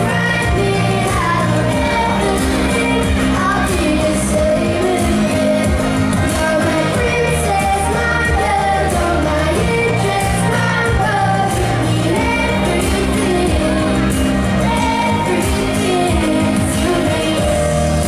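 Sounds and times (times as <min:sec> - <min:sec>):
bass and accompaniment: 0:00.0 - 0:18.0.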